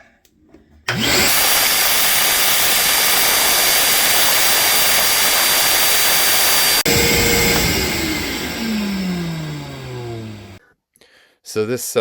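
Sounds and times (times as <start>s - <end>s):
vacuum cleaner running: 0.9s - 10.6s
vacuum sucking up debris: 0.9s - 10.6s.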